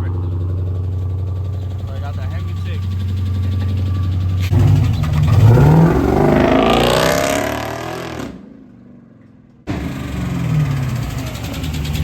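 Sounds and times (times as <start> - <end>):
car engine revving: 0.0 - 8.9, 9.7 - 12.0.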